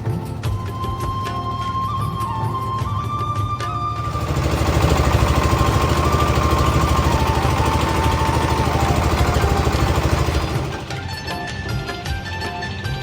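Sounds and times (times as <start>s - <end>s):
boat engine throbbing: 0.0s - 11.3s.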